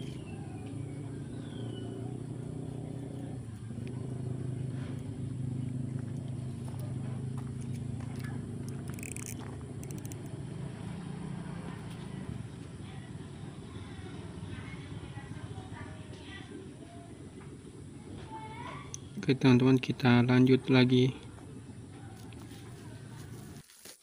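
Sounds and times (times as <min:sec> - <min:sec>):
scooter engine idling: 0:00.0 - 0:23.6.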